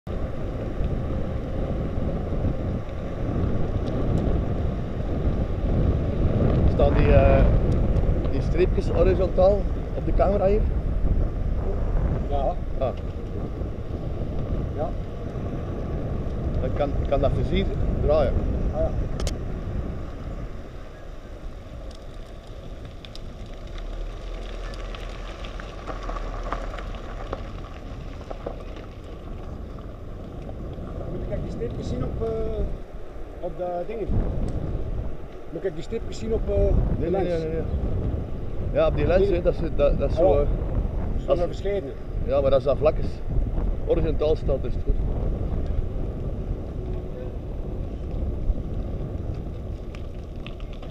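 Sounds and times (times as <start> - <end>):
gravel crackling under tyres: 0.0 - 50.9
wind rumbling on microphone: 0.0 - 50.9.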